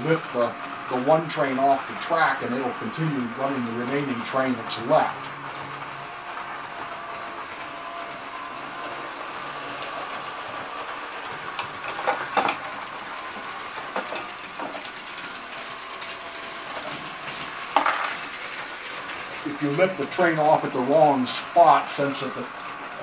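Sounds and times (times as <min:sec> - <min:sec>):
clicks and clacks of track: 0:00.0 - 0:23.0
model train motor whirring: 0:00.0 - 0:23.0.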